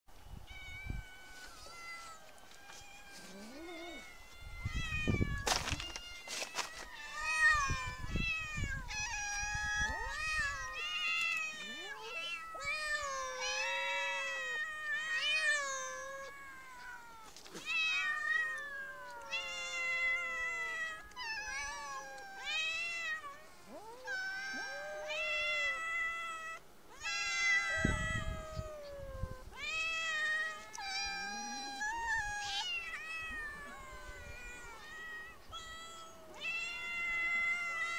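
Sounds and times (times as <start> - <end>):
cats meowing: 0.4 - 37.9.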